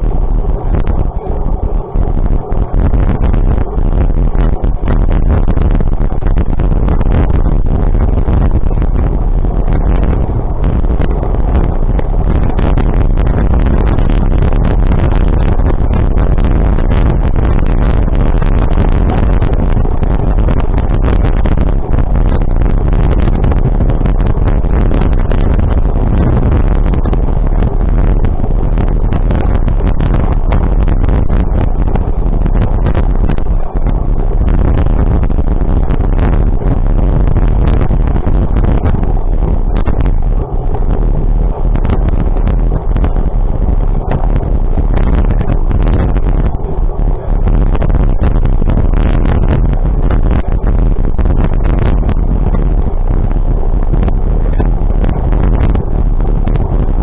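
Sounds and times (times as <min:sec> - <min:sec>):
moving vehicle rumble: 0:00.0 - 0:57.0
wind noise on microphone: 0:00.0 - 0:57.0.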